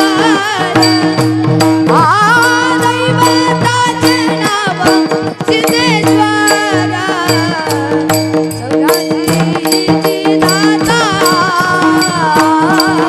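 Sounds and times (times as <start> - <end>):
boy singing: 0.0 - 13.0
hand drum strokes: 0.0 - 13.0.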